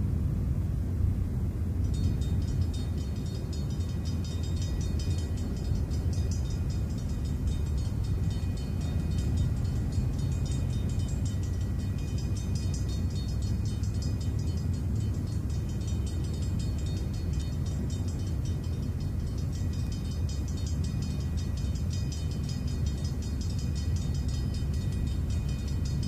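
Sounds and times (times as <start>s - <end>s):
diesel train approaching: 0.0s - 26.0s
road traffic rumble: 0.0s - 26.0s
crossing warning bell ringing: 1.8s - 26.0s.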